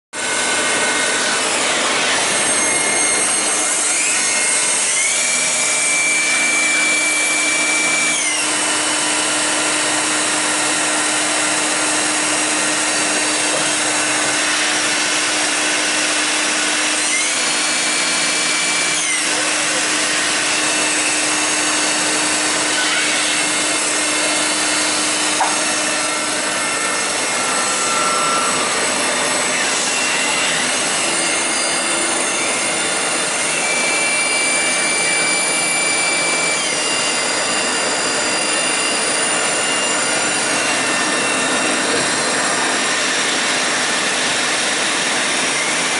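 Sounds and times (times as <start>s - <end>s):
high machine whine: 0.2s - 45.9s.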